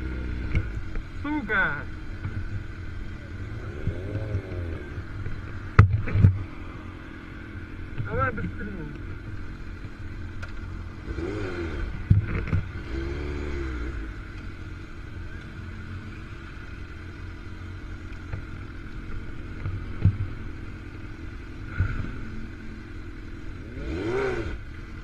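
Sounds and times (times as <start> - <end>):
motorcycle engine drone: 0.0 - 25.0.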